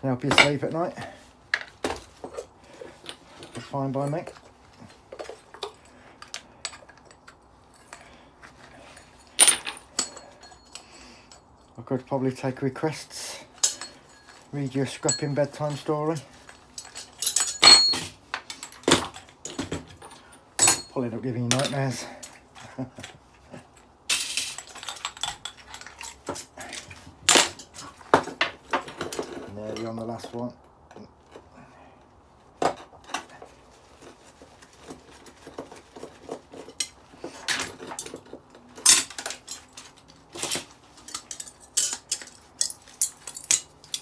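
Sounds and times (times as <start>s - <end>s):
small metal parts clinking: 0.2s - 11.8s, 13.4s - 31.5s, 32.7s - 44.0s.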